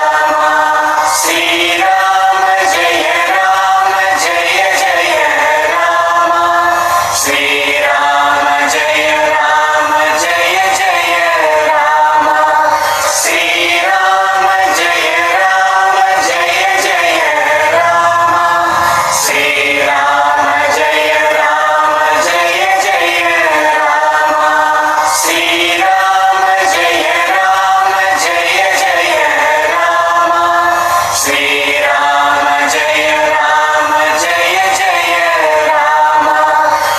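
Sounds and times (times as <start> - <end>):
chorus singing: 0.0 - 36.9.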